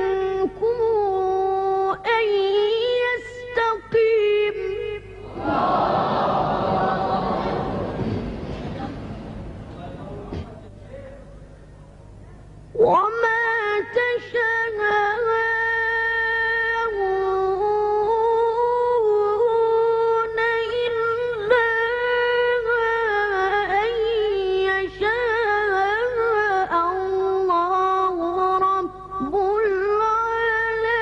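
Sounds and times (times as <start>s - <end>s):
boy chanting recitation: 0.0s - 7.8s, 12.2s - 31.0s.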